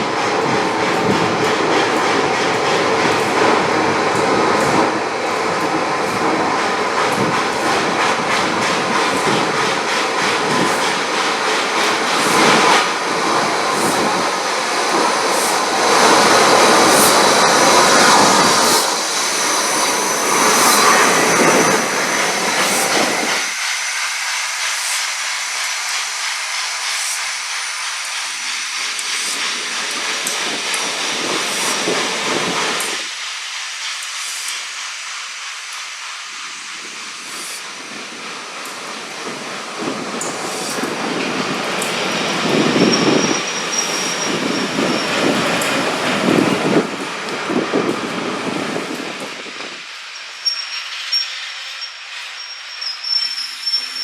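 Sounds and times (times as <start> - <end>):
hissing steam: 0.0 - 54.0
steam locomotive running: 0.0 - 54.0
train rattle: 0.0 - 54.0
train rumble: 0.0 - 54.0.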